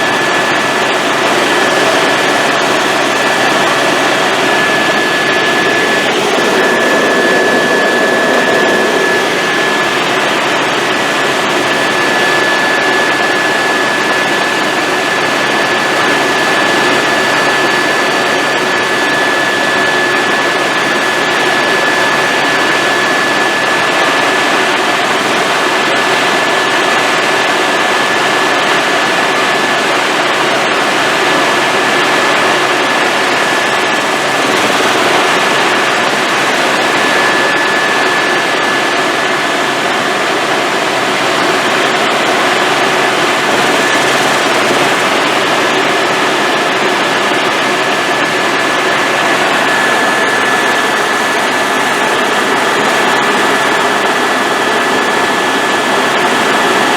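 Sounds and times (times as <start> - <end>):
engine and rotor noise: 0.0 - 56.9
helicopter turbine whine: 0.0 - 56.9.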